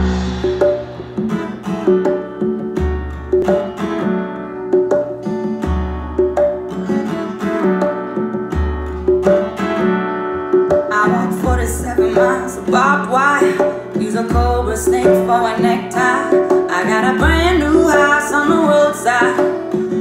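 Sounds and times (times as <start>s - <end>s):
plucked guitar riff: 0.0s - 20.0s.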